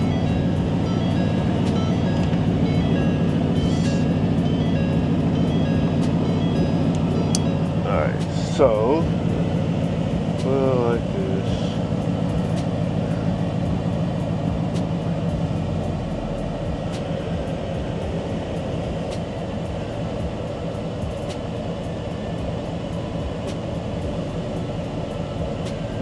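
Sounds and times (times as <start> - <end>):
low mechanical hum: 0.0 - 26.0
noisy rush: 0.0 - 26.0.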